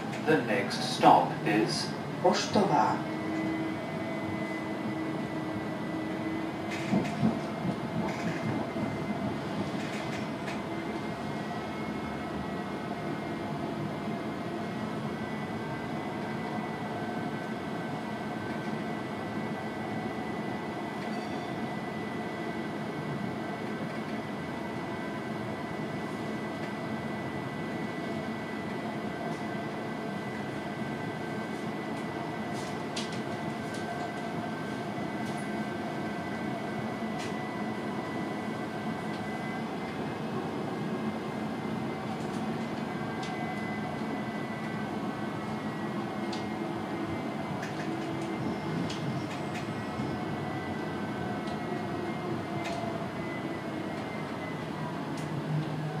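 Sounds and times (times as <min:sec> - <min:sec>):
tram rumble with high whine: 0:00.0 - 0:56.0.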